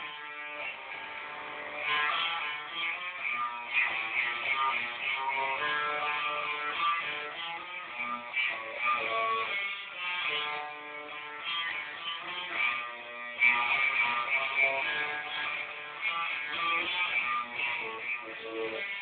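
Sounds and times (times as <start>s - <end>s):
electric guitar riff: 0.0s - 19.0s.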